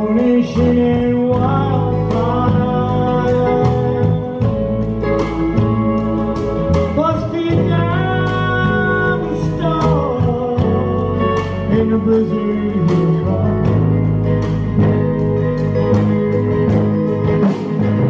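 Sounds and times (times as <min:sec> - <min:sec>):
acoustic and electric guitars: 0:00.0 - 0:18.0
electric bass: 0:00.0 - 0:18.0
keyboard: 0:00.0 - 0:18.0.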